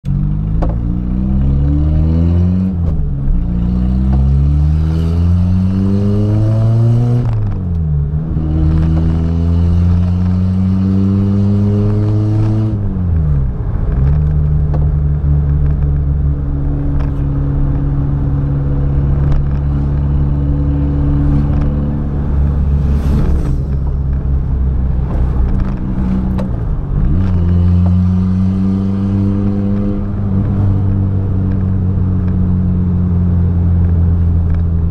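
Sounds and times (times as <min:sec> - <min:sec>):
car engine shifting through gears: 0:00.0 - 0:34.9.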